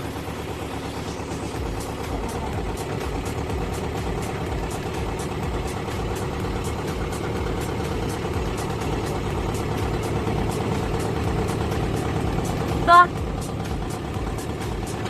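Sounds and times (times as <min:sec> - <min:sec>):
diesel tractor engine idling: 0:00.0 - 0:15.0
light regular ticking: 0:01.6 - 0:15.0.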